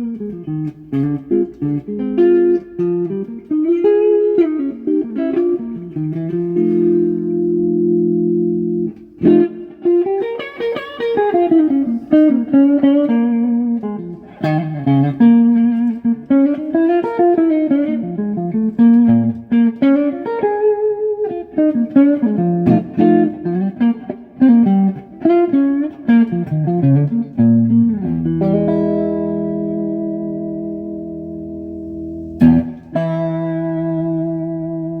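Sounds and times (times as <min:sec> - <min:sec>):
electric guitar playing: 0:00.0 - 0:35.0.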